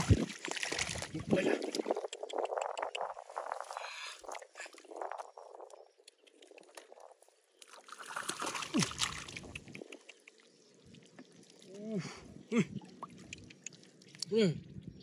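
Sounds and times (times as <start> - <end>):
muddy water splashing: 0.0 - 5.8, 6.4 - 14.2.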